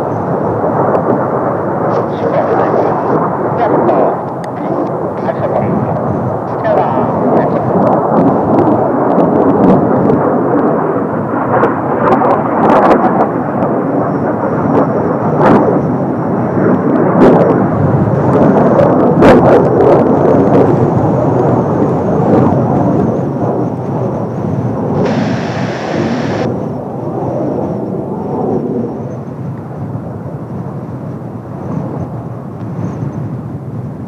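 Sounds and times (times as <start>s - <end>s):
jet roar overhead: 0.0s - 34.0s
wind buffeting microphone: 0.0s - 34.0s.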